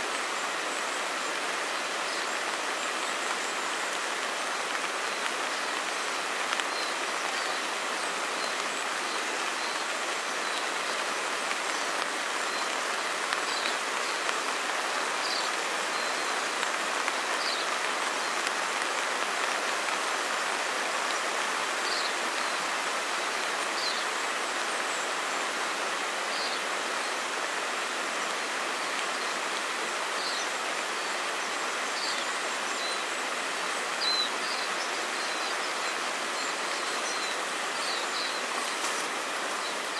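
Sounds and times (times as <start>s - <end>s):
falling rain: 0.0s - 39.9s
river rushing: 0.0s - 39.9s.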